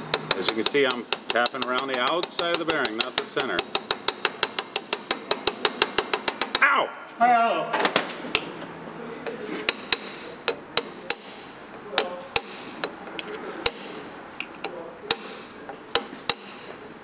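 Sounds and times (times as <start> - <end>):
hammer tapping on metal: 0.0 - 6.6, 9.3 - 16.8.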